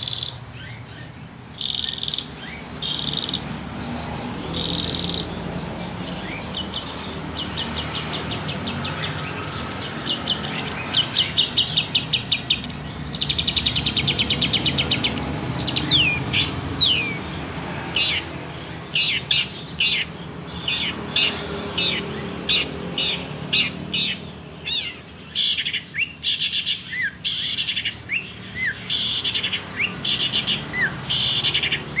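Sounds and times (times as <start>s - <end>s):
shrike singing trills and whistles: 0.0s - 32.0s.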